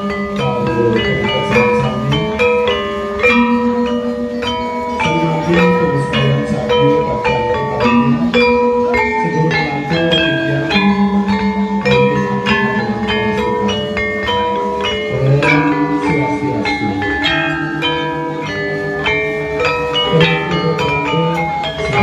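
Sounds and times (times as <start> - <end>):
tuned mallet percussion: 0.0 - 22.0.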